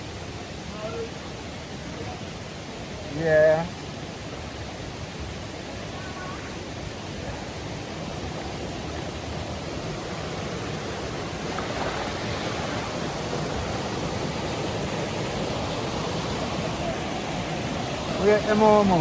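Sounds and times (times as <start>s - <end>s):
river water tumbling over falls: 0.0s - 19.0s.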